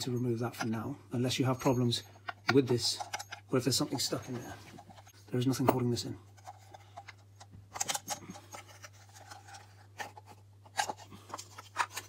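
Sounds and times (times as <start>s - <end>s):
plastic parts clicking and scraping: 1.6s - 12.0s.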